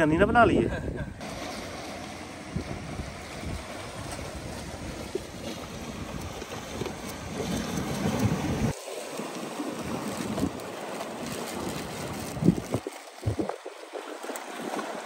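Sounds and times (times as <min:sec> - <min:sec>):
wind rumbling on microphone: 0:00.0 - 0:08.8, 0:09.6 - 0:15.0
sea waves washing against rocks: 0:01.2 - 0:15.0.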